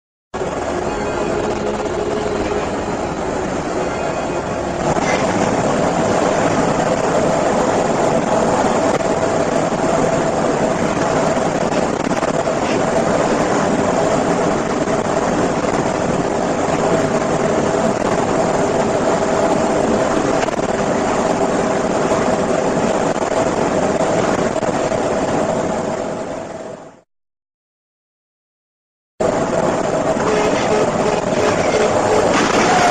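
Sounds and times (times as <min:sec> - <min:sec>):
constant hum: 0:00.4 - 0:26.8, 0:29.2 - 0:32.9
truck engine and road drone: 0:00.4 - 0:27.0, 0:29.2 - 0:32.9.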